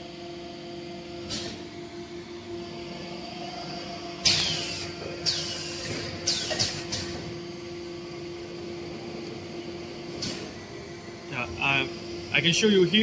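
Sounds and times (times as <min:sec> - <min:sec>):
mixing machine humming: 0:00.0 - 0:13.0.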